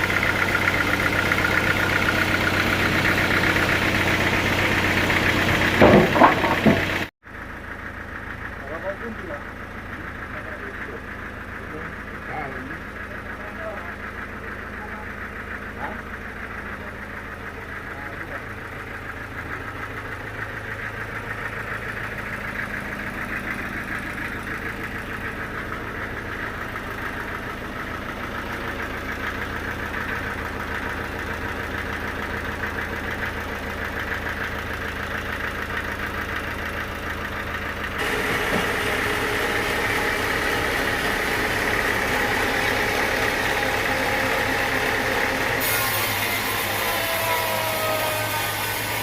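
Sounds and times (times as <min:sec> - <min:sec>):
sawmill machinery humming: 0:00.0 - 0:49.0.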